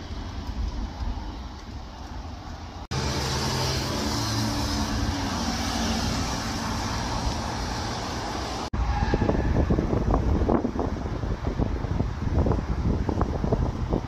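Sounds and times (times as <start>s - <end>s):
low hum of road traffic: 0.0s - 14.0s.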